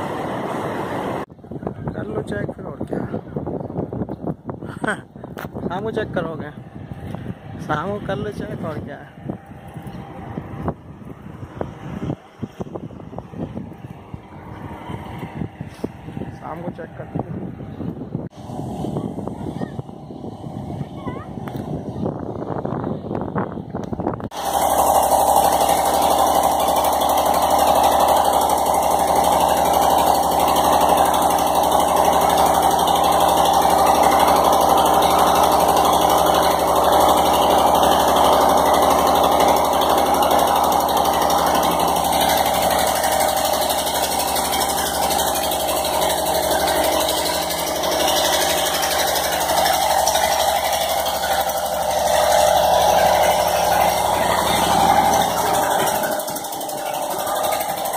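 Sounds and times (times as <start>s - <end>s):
motor droning: 0.0s - 57.9s.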